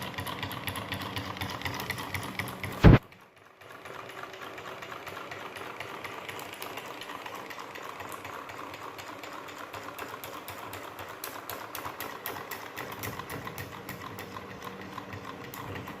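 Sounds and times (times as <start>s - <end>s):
solenoid engine clicking clatter: 0.0s - 16.0s.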